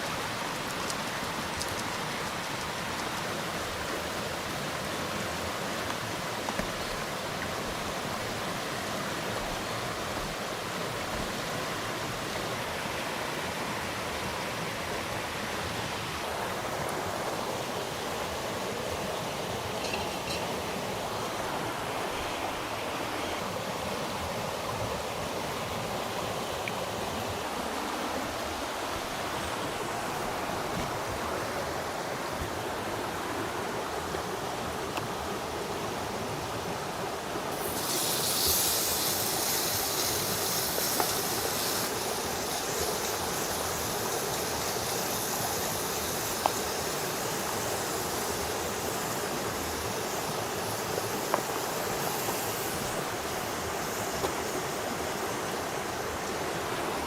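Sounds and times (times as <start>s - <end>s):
high hiss: 0.0s - 57.0s
running water rushing: 0.0s - 57.0s.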